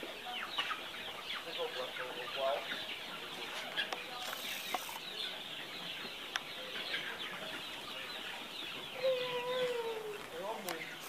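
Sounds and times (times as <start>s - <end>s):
chickens clucking and cheeping: 0.0s - 11.0s.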